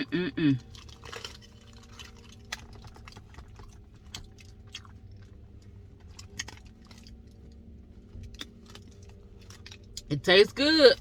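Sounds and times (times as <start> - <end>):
chewing sandwich: 0.0 - 10.1
steady low hum: 0.0 - 11.0.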